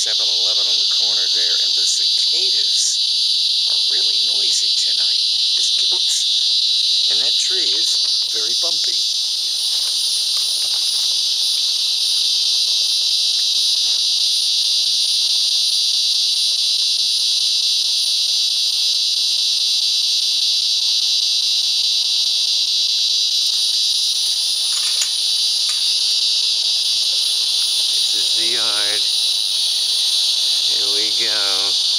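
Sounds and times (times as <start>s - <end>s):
cicadas buzzing: 0.0s - 31.9s.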